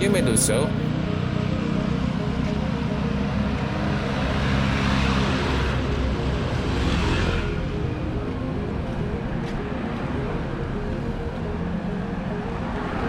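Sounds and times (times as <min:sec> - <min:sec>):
vehicle passing: 0:00.8 - 0:13.0.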